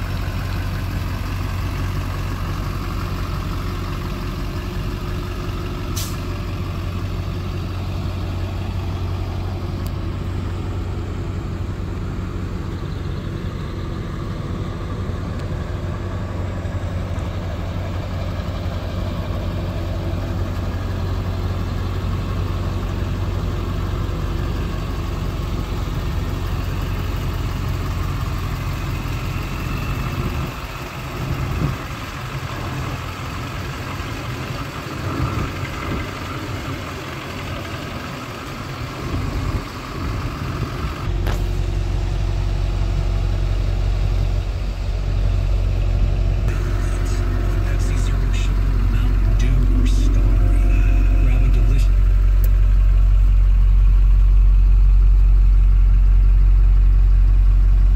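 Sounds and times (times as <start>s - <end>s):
pickup engine idling: 0.0s - 57.9s.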